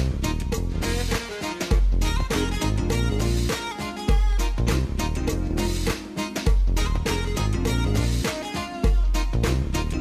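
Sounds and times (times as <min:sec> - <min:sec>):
instrumental music with bass and beat: 0:00.0 - 0:10.0.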